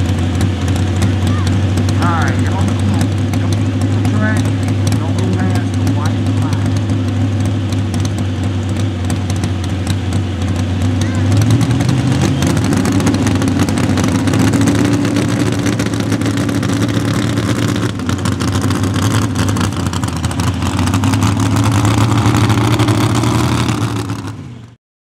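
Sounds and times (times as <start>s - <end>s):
tractor engine at high revs: 0.0s - 24.8s.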